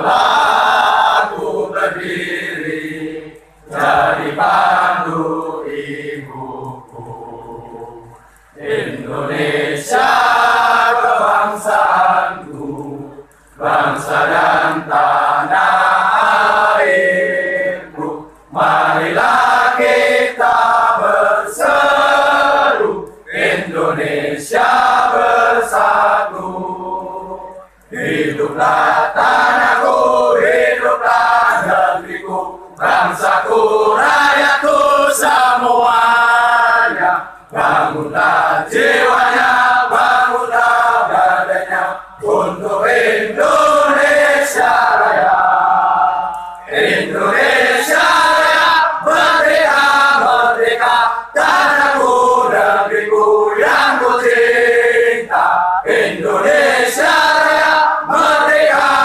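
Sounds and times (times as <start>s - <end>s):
crowd of men singing: 0.0s - 59.0s.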